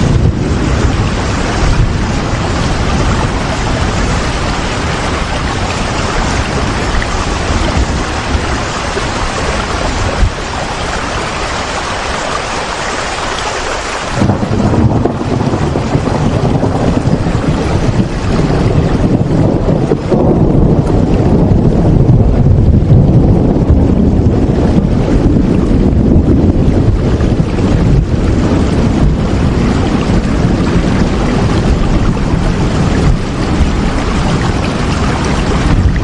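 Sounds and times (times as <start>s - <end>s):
low rumble: 0.0s - 11.3s, 14.2s - 36.0s
heavy rain: 0.0s - 36.0s.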